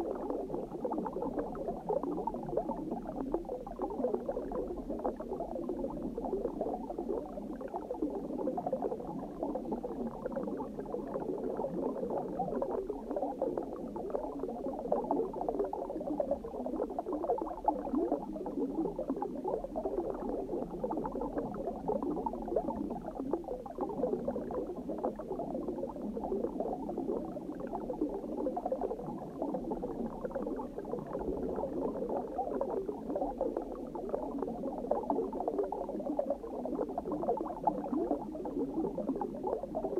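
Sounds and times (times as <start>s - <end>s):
muffled underwater bubbling: 0.0s - 39.9s.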